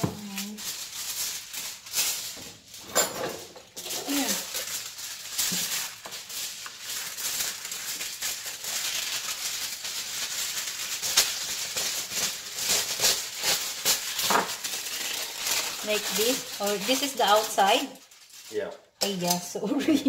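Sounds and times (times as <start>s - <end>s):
scissors cutting foil: 0.0s - 19.5s
aluminum foil crinkling: 0.0s - 20.0s.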